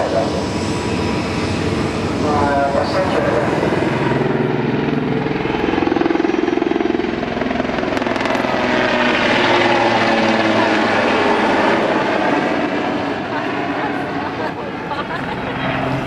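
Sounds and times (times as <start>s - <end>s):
helicopter flying past: 0.0s - 16.0s.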